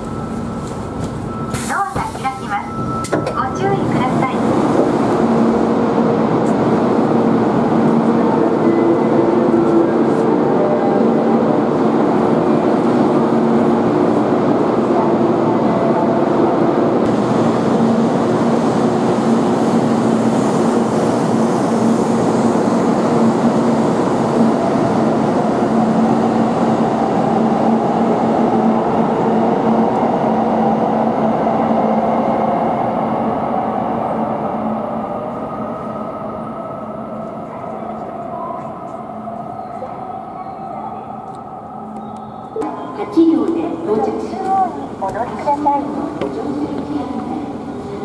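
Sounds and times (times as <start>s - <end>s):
train running hum with tonal whine: 0.0s - 48.0s.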